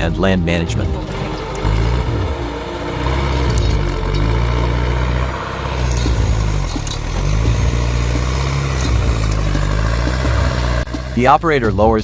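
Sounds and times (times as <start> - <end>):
diesel engine under load: 0.0 - 11.9.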